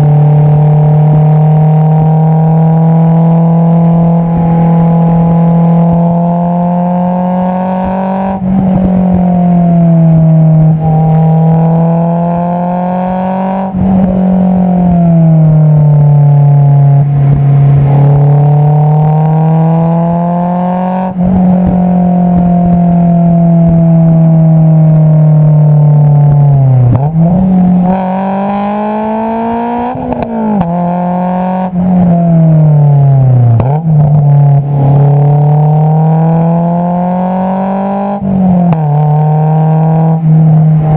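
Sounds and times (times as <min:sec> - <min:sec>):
car exhaust while driving: 0:00.0 - 0:40.9.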